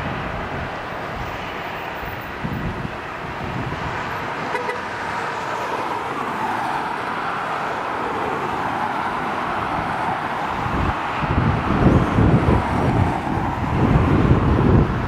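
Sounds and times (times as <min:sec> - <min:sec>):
distant jet engine whine: 0:00.0 - 0:15.0.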